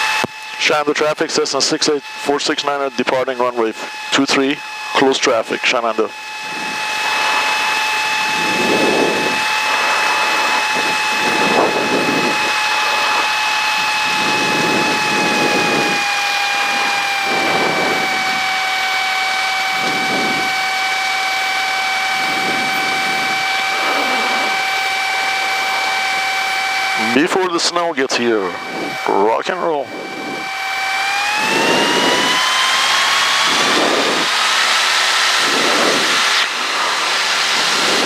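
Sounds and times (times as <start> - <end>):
aircraft engine and propeller drone: 0.0 - 38.0.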